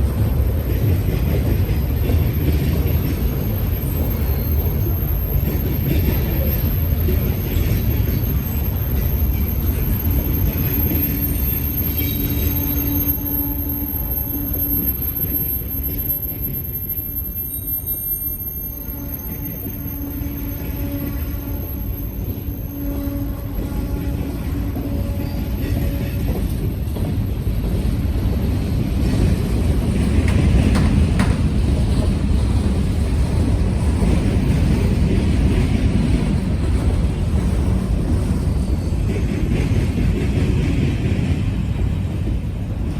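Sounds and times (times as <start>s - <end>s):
faint train wheel whine: 0.0s - 42.9s
freight train wheels rumbling: 0.0s - 42.9s.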